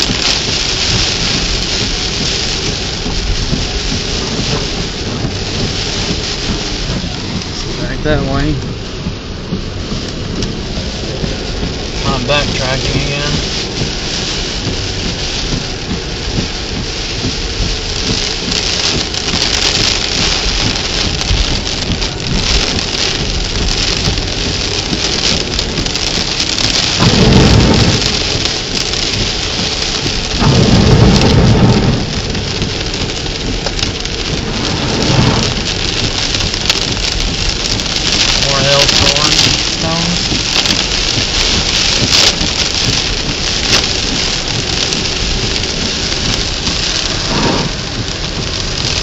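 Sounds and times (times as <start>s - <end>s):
heavy rain on a car: 0.0s - 49.0s
low rumbling: 0.0s - 49.0s.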